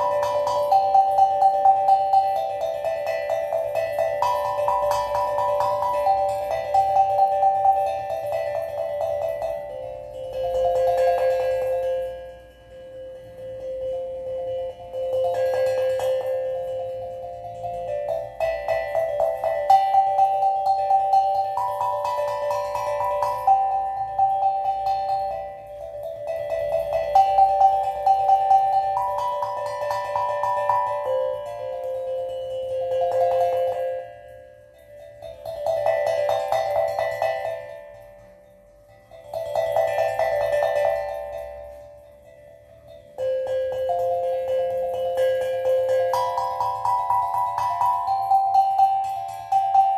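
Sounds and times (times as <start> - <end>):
steel tongue drum notes: 0.0 - 49.9.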